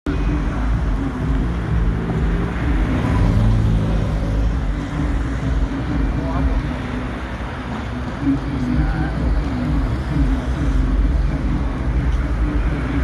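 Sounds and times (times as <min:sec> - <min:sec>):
car engines running: 0:00.0 - 0:13.0
steady low rumble: 0:00.1 - 0:13.0.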